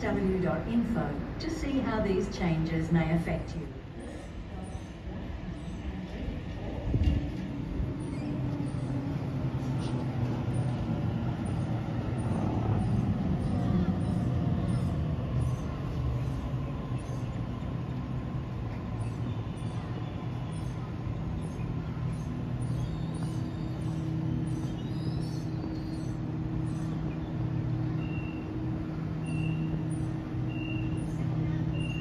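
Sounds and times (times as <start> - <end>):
train mechanical hum: 0.0 - 32.0
faint rising whine: 4.0 - 32.0.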